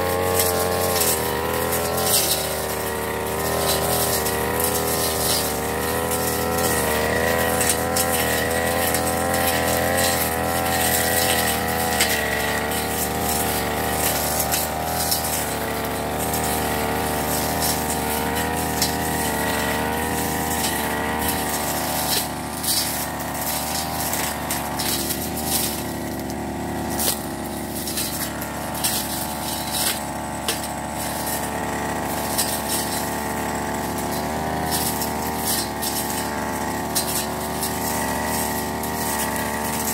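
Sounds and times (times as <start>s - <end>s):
brush cutter engine: 0.0s - 39.9s.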